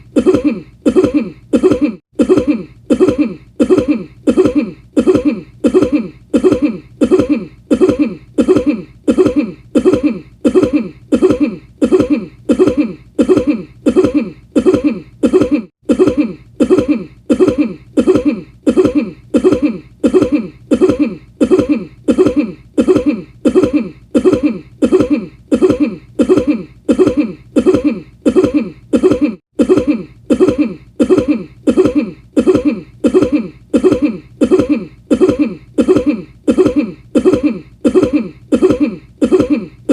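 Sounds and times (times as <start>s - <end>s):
man coughing: 0.0s - 39.9s.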